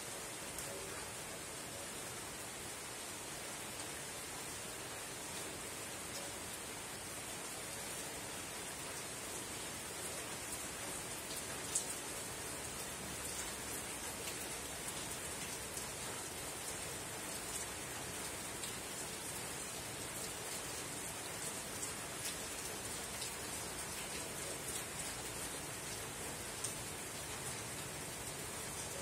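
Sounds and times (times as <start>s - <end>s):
rain on a tin roof: 0.0s - 29.0s.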